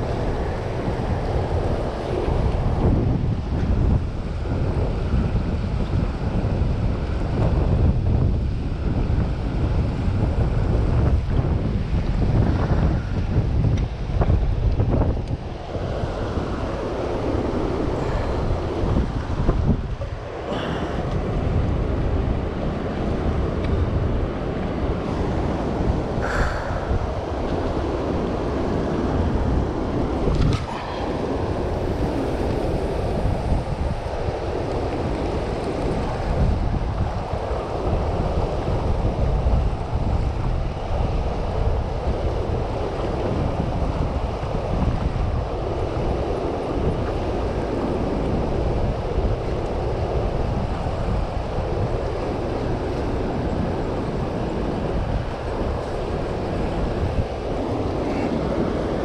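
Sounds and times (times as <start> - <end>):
turbulent water rushing: 0.0 - 59.0
wind buffeting microphone: 0.0 - 59.0.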